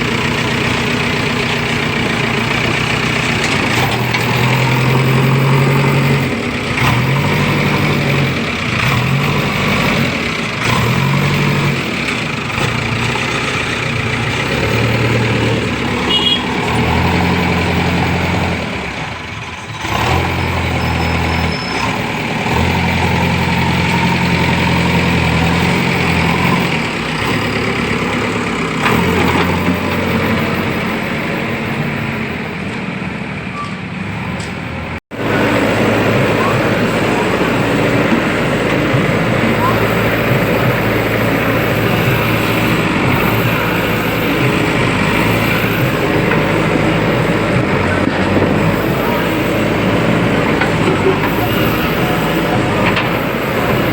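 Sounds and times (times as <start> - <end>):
diesel engine under changing load: 0.0 - 53.9.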